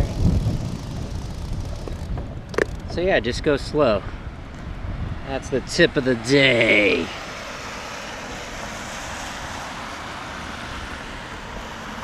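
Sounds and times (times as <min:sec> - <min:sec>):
bicycle tyres on wet road: 0:00.0 - 0:03.0, 0:03.8 - 0:12.0
car traffic: 0:00.0 - 0:12.0.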